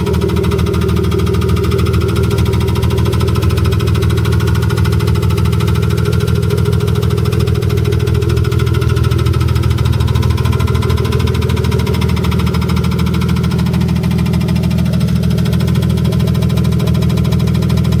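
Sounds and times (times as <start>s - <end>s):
car engine running: 0.0s - 18.0s
rapid engine ticking: 0.0s - 18.0s.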